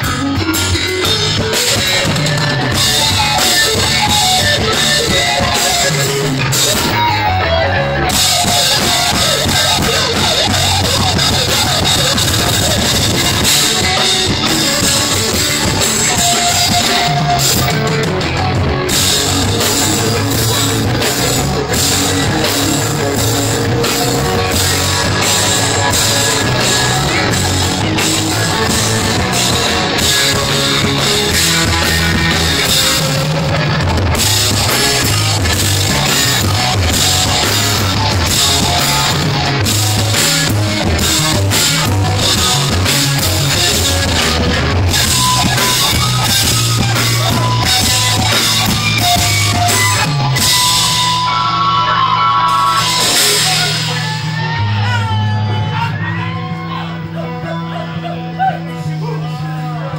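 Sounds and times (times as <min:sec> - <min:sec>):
drum kit beat: 0:00.0 - 0:55.6
electric guitars: 0:00.0 - 0:59.9
live rock band playing: 0:00.0 - 0:59.9.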